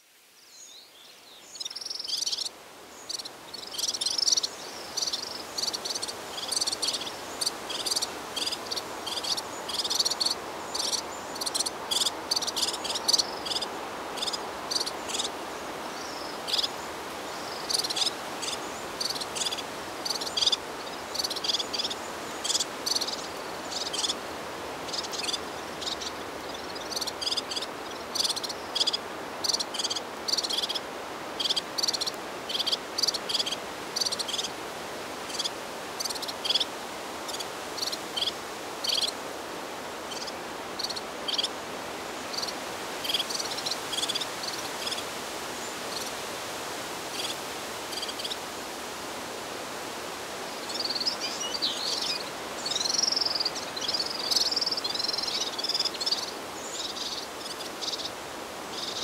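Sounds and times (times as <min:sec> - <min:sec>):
background hiss: 0:00.0 - 0:59.0
insects chirping: 0:00.6 - 0:59.0.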